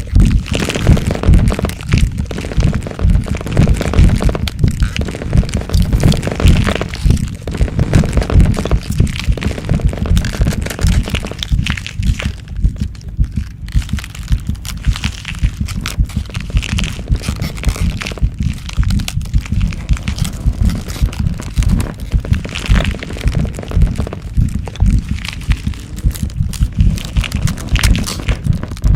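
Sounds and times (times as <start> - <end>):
crackling and crunching: 0.0 - 28.9
deep thumping: 0.0 - 28.9.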